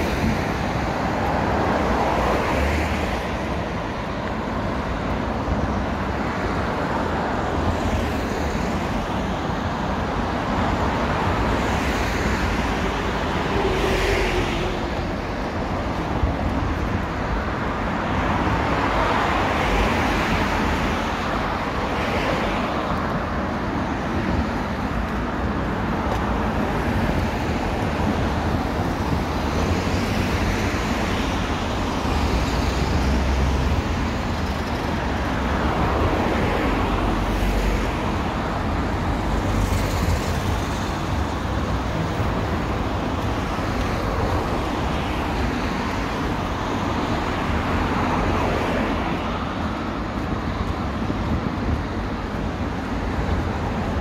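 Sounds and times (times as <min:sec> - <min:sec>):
road traffic: 0:00.0 - 0:54.0
vehicles passing: 0:00.0 - 0:54.0.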